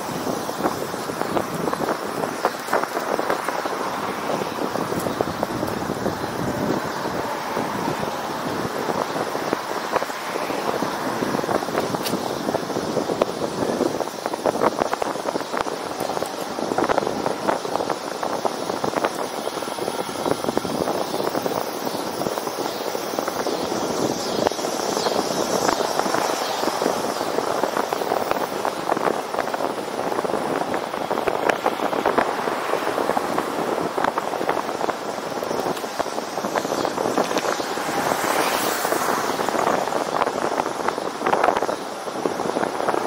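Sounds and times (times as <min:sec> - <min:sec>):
tyre and road noise: 0:00.0 - 0:43.0
wind rushing over microphone: 0:00.0 - 0:43.0.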